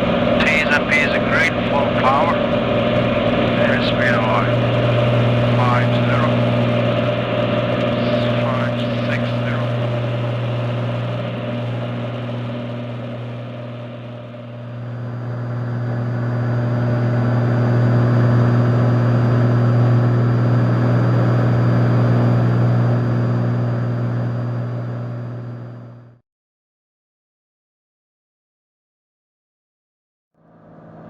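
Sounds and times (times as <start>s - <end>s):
propeller plane engine drone: 0.0s - 26.2s, 30.4s - 31.0s.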